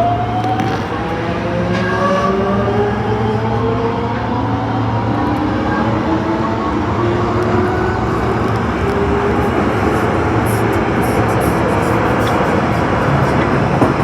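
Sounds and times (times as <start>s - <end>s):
shrill subway running tones: 0.0s - 14.0s
subway hum and rumble: 0.0s - 14.0s.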